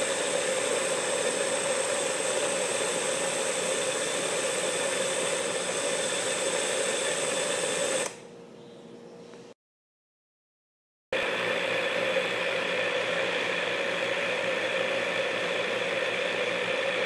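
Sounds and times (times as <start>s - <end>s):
food processor grinding: 0.0s - 8.2s, 11.2s - 17.0s.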